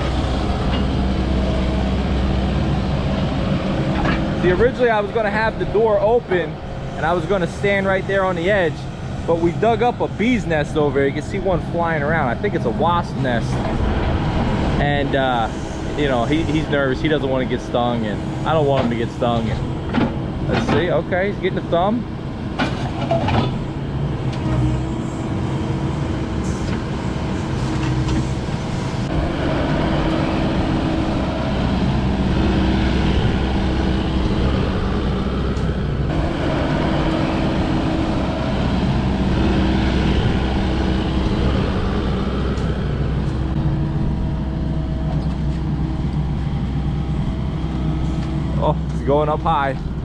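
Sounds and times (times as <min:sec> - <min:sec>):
excavator diesel engine: 0:00.0 - 0:50.0
hydraulic whine: 0:00.0 - 0:50.0.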